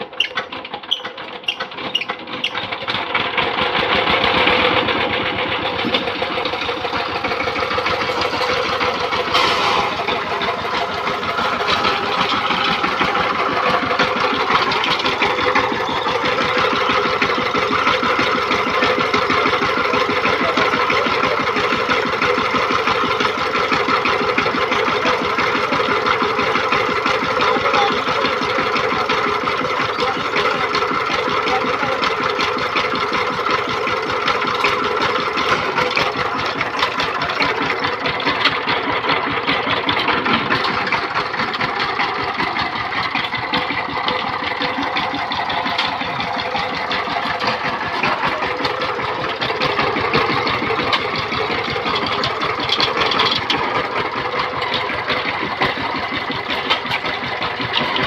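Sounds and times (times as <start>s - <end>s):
diesel tiller engine knocking: 0.0s - 58.0s.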